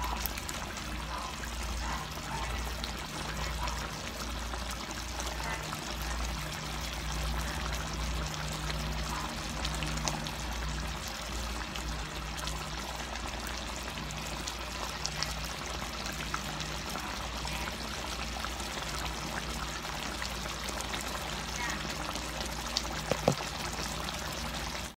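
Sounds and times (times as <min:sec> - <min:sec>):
stew bubbling: 0:00.0 - 0:24.9.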